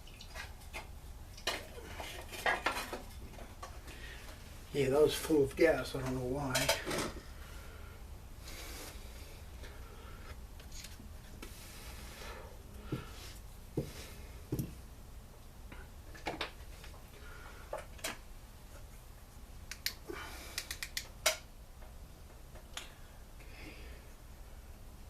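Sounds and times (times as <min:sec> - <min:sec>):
steady low hum: 0:00.6 - 0:25.0.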